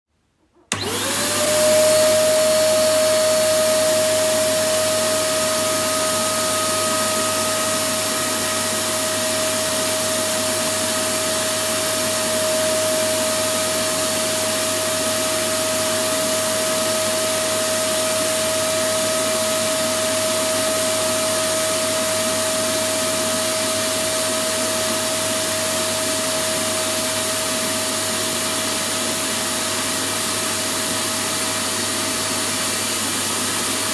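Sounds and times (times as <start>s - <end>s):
vacuum cleaner running: 0.7s - 33.9s.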